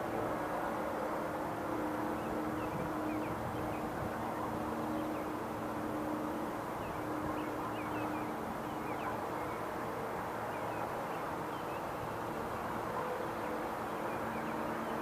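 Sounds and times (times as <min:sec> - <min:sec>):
distant warning sirens: 0:00.0 - 0:15.0.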